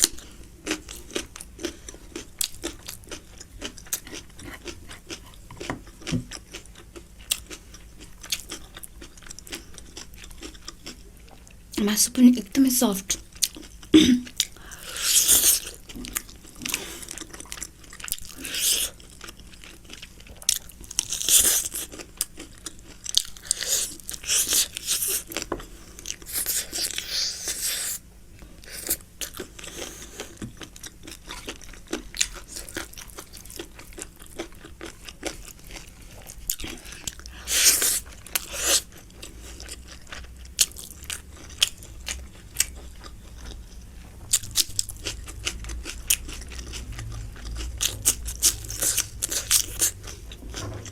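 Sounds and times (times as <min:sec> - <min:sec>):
person chewing food: 0:00.0 - 0:11.8, 0:13.1 - 0:50.9.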